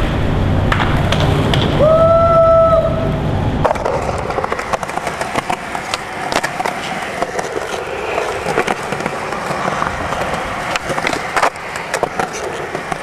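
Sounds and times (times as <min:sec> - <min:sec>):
skateboard wheels rolling on concrete: 0:00.0 - 0:13.0
skateboard clacking on ground: 0:00.7 - 0:01.8, 0:03.6 - 0:13.0.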